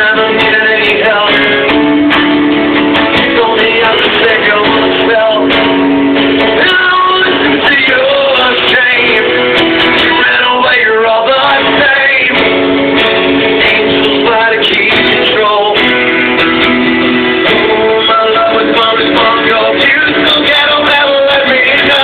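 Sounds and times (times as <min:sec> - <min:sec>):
strummed guitar: 0:00.0 - 0:22.0.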